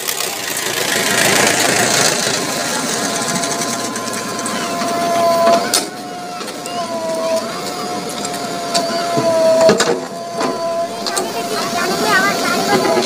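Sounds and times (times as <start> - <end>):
diesel engine rattling: 0.0 - 13.0
hydraulic whine: 0.0 - 13.0.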